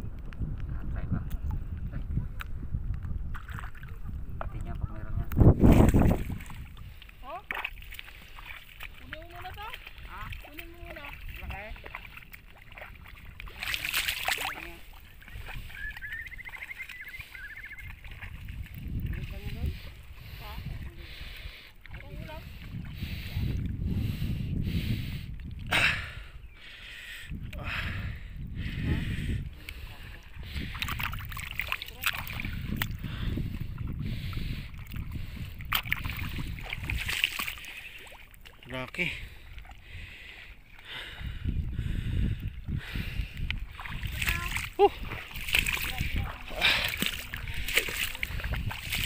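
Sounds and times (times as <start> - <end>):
wind rumbling on microphone: 0.0 - 49.0.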